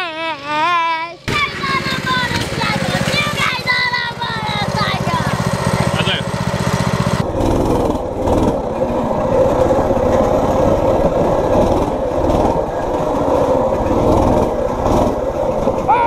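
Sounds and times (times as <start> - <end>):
mini bike engine running: 0.0 - 16.0.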